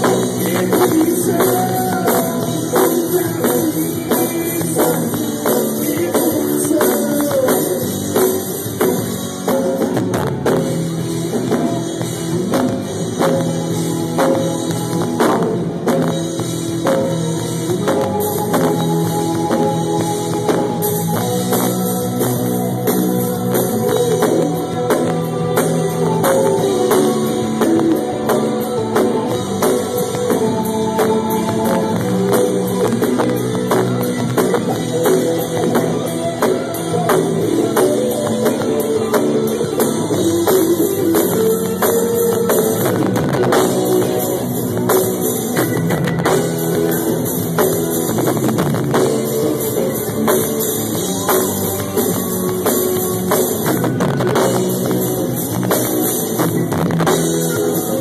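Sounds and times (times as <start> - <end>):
bass guitar: 0.0 - 58.0
drum kit beat: 0.0 - 58.0
electric guitars: 0.0 - 58.0
keyboard: 0.0 - 58.0.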